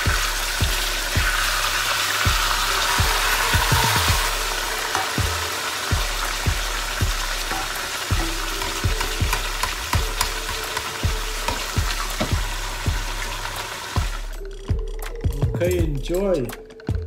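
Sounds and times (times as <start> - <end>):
fish frying in hot oil: 0.0 - 14.4.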